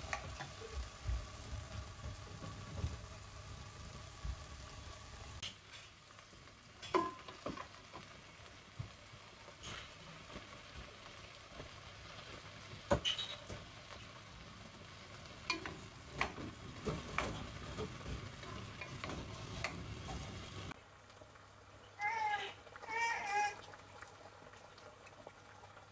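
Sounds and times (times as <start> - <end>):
chicken and vegetables sizzling: 0.0 - 25.9.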